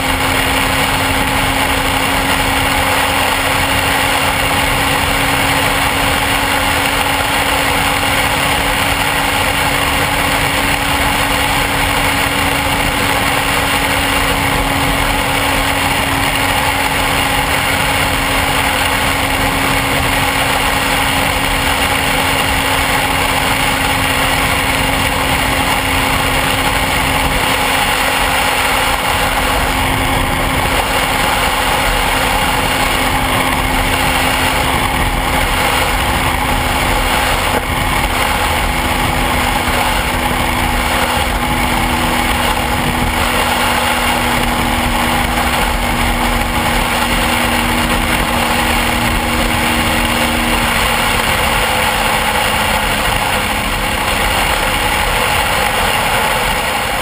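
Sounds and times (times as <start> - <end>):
motorcycle engine drone: 0.0 - 57.0
wind rush on microphone: 0.0 - 57.0.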